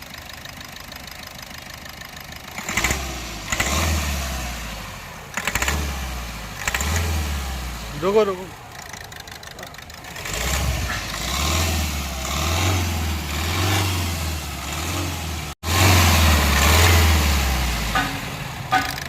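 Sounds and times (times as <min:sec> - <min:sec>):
vehicle engine revving: 0:02.5 - 0:19.0.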